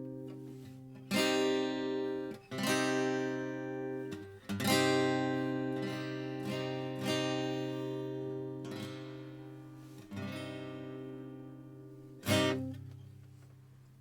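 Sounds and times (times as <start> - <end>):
acoustic guitar strummed slowly: 0.0 - 13.5.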